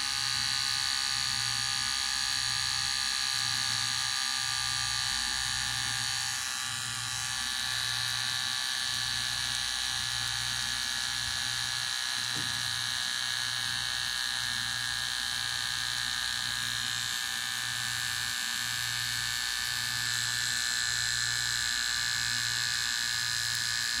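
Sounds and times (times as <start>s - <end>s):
electric hair clipper buzzing: 0.0s - 24.0s.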